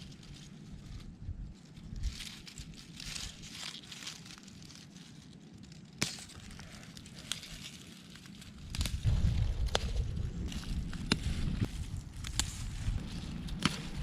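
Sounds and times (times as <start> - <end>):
rustling and crinkling handling: 0.0 - 14.0.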